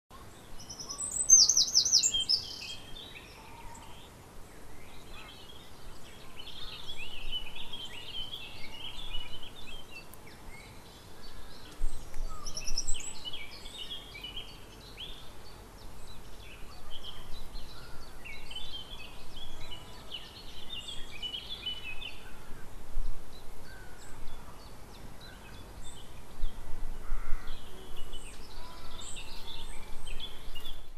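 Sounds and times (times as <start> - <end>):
faint steady background noise: 0.1 - 30.9
songbirds singing and calling: 0.1 - 30.9.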